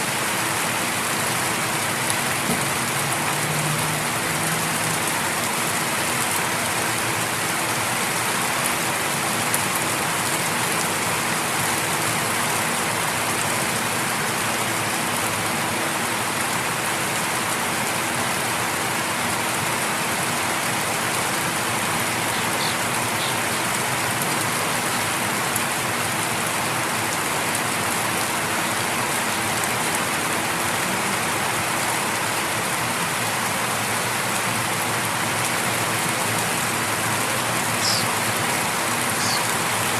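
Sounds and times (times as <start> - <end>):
light rain patter: 0.0 - 39.9.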